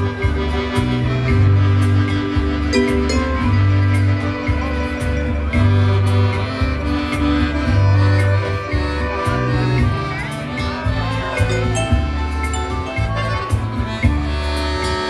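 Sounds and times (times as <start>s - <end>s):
accordion melody: 0.0s - 15.0s
bass alternating low notes: 0.0s - 15.0s
polka band playing: 0.0s - 15.0s.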